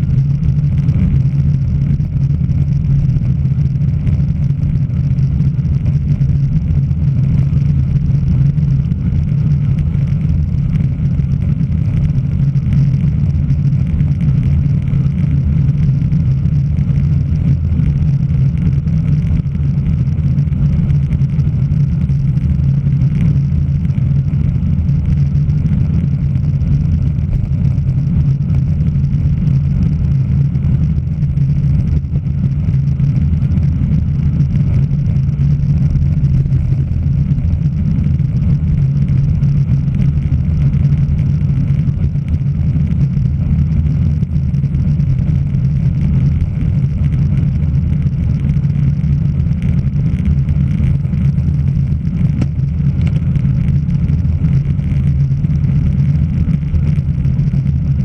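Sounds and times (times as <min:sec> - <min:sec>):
road vibration rumble: 0:00.0 - 0:58.0.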